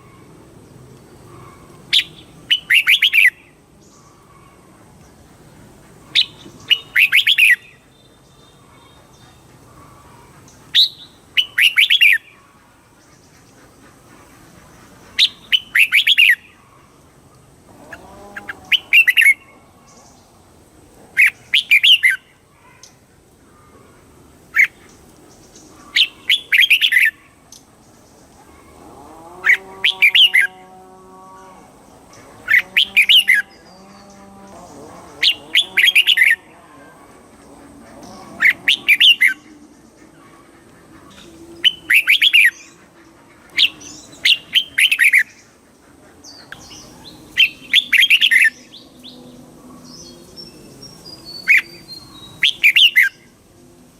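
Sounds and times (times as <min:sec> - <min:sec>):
bird chattering song: 0:01.2 - 0:16.6, 0:17.9 - 0:20.2, 0:21.2 - 0:23.0, 0:24.5 - 0:28.8, 0:29.4 - 0:30.6, 0:31.8 - 0:36.5, 0:37.3 - 0:53.3.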